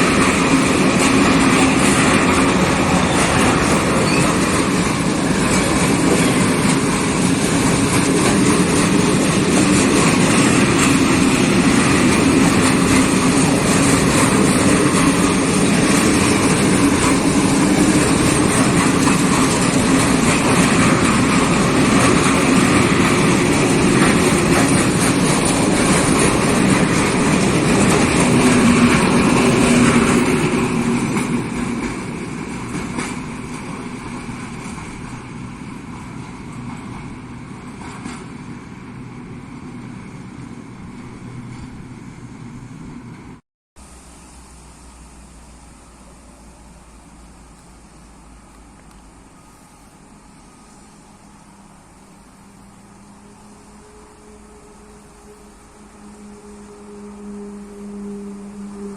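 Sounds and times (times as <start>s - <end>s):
train rolling on rails: 0.0s - 58.9s.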